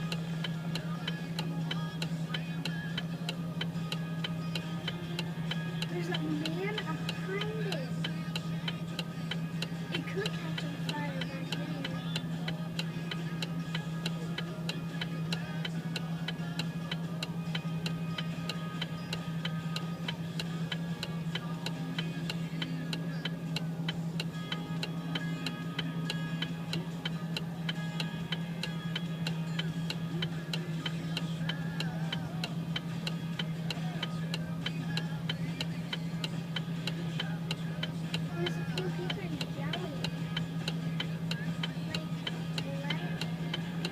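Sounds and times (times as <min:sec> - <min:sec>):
regular ticking clicks: 0:00.0 - 0:43.9
steady low hum: 0:00.0 - 0:43.9.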